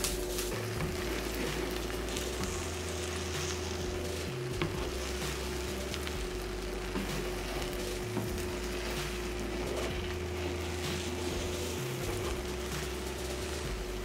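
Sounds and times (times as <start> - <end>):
eggs sizzling in butter: 0.0 - 14.0.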